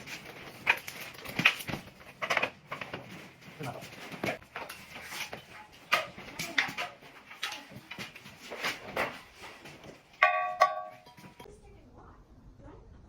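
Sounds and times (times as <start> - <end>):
knocks and clatter of parts: 0.0 - 11.5.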